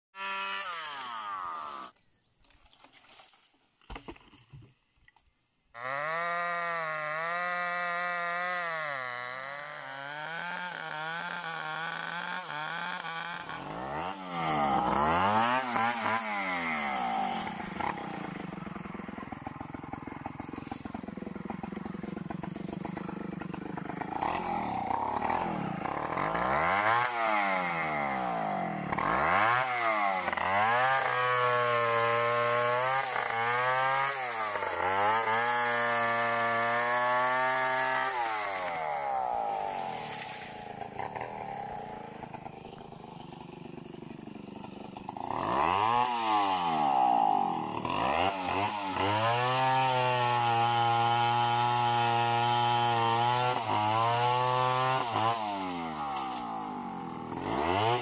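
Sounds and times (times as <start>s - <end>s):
chainsaw cutting branches: 0.2s - 4.3s, 5.7s - 58.0s.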